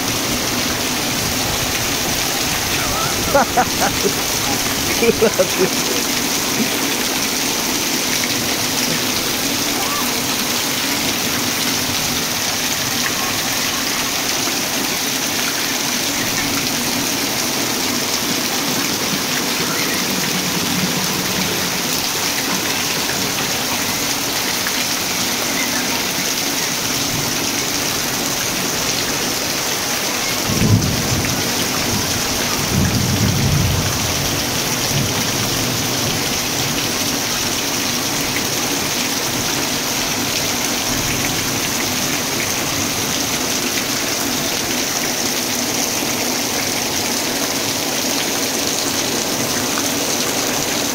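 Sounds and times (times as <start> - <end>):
heavy rain on concrete and metal: 0.0 - 50.9.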